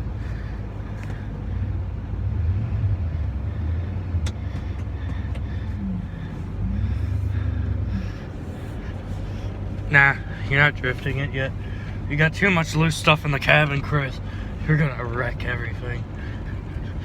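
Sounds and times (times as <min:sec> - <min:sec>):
pickup engine drone from inside cab: 0:00.0 - 0:17.0.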